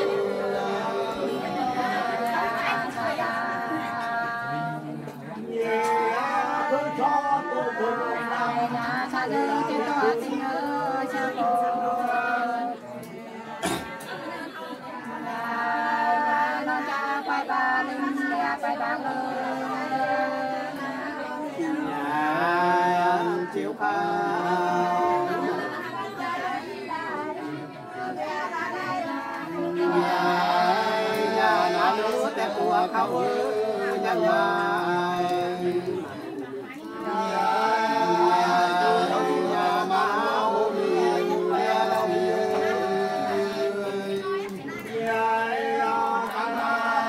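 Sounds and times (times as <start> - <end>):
two women singing unaccompanied: 0.0 - 47.0.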